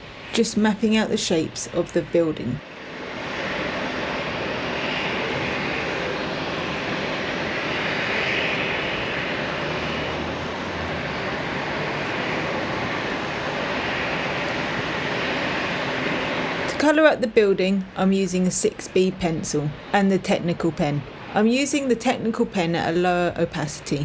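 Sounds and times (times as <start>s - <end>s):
rushing city background noise: 0.0s - 24.0s.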